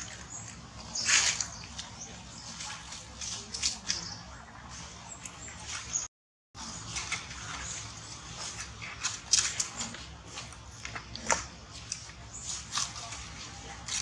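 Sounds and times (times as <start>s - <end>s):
monkeys rustling on leaves: 0.0s - 14.0s.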